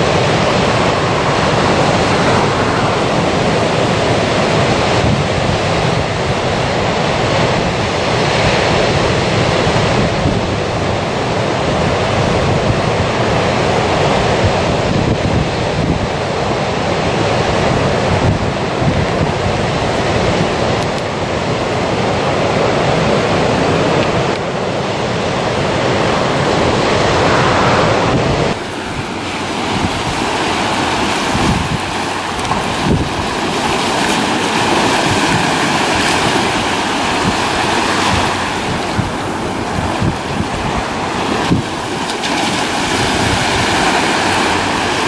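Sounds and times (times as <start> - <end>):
small waves breaking on beach: 0.0 - 45.0
wind buffeting microphone: 0.0 - 45.0.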